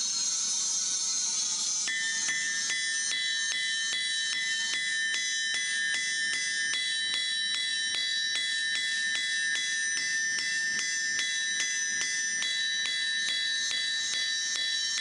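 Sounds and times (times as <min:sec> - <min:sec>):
anvil ringing: 0:01.9 - 0:15.0
hammer striking steel on anvil: 0:01.9 - 0:15.0.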